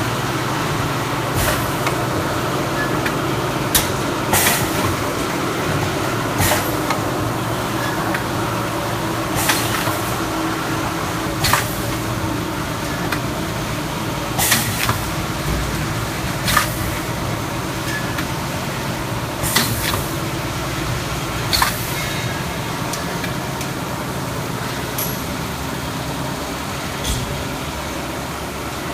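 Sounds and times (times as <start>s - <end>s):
machine mechanical hum: 0.0s - 28.9s.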